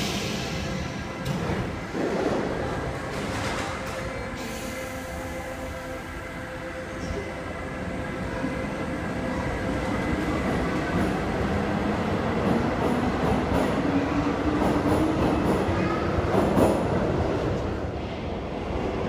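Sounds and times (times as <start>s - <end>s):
train wheels rumbling on rails: 0.0s - 7.3s, 8.5s - 19.0s.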